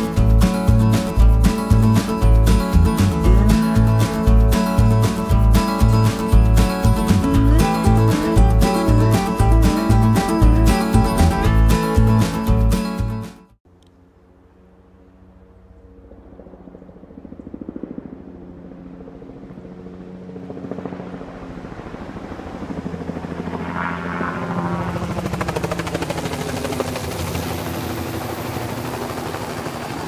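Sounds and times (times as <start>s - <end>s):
helicopter flying overhead: 0.0s - 12.5s, 13.7s - 30.0s.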